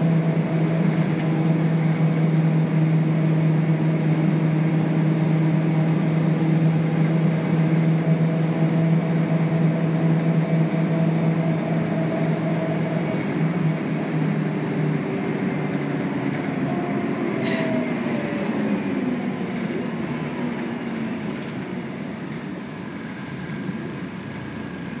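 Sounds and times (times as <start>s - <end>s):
bus engine running: 0.0s - 25.0s
road noise: 0.0s - 25.0s.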